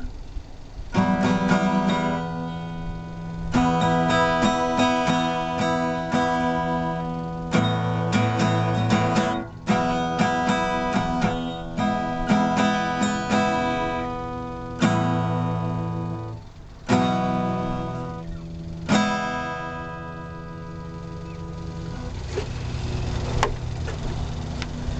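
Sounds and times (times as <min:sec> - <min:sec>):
acoustic guitar strumming: 0:00.0 - 0:24.9.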